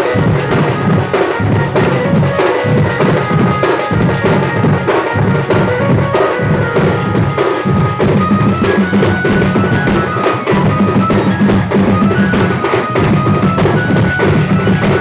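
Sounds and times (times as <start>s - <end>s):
fast dense drumming: 0.0s - 15.0s
high held melody: 0.0s - 15.0s.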